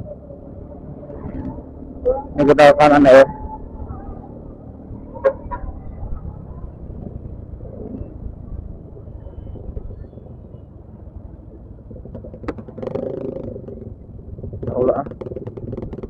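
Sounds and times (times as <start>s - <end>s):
scooter engine and road rumble: 0.0s - 16.0s.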